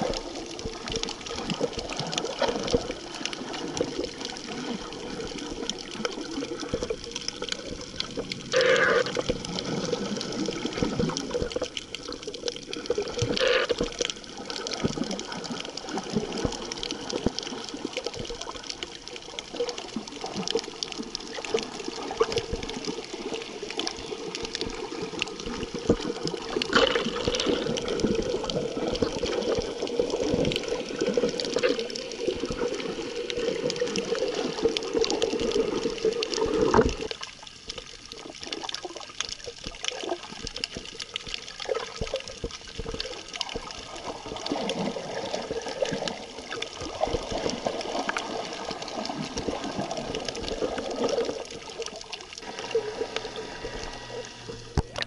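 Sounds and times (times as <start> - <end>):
underwater rushing wash: 0.0 - 55.0.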